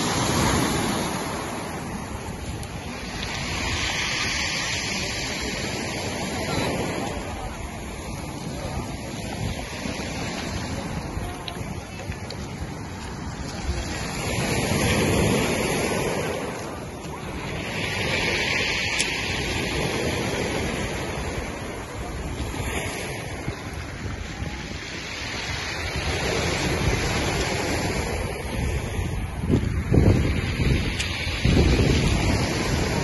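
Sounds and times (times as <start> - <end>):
surf washing on pebbles: 0.0 - 33.0
wind across microphone: 0.0 - 33.0.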